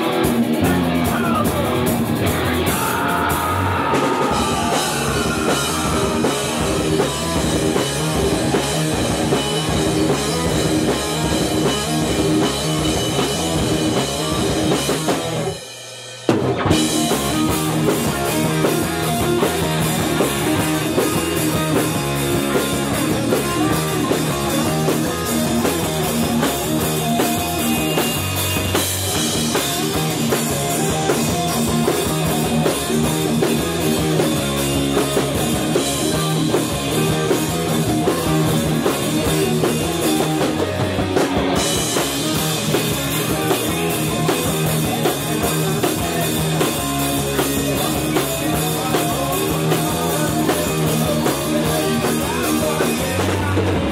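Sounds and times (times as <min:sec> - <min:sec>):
heavy metal band playing: 0:00.0 - 0:53.9.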